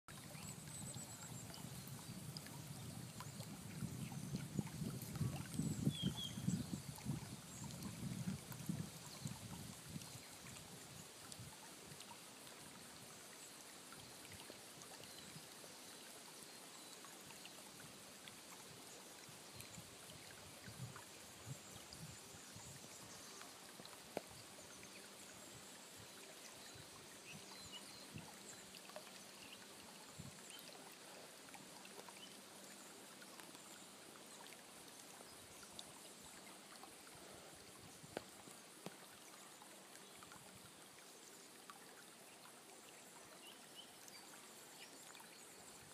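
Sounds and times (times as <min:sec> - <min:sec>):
soft hiss: 0:00.1 - 0:45.9.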